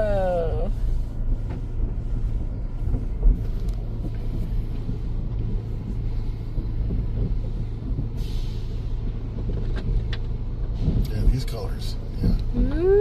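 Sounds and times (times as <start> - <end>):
car wash machinery rumbling: 0.0 - 13.0.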